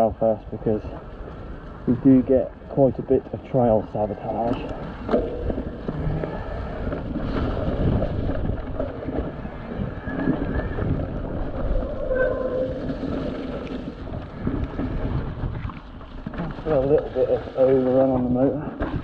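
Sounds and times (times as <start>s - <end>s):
tyres rolling through mud and leaves: 0.0s - 19.0s
wind on microphone: 0.0s - 19.0s
bike rattling over bumps: 0.8s - 19.0s.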